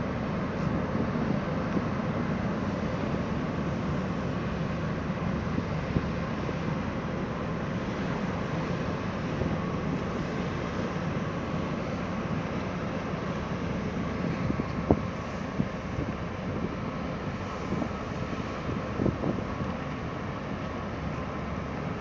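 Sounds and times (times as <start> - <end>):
ship engines rumbling: 0.0 - 22.0.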